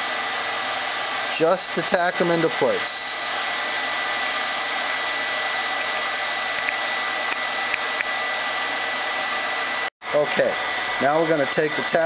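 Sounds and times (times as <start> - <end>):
hot-air welder hissing: 0.0 - 12.0.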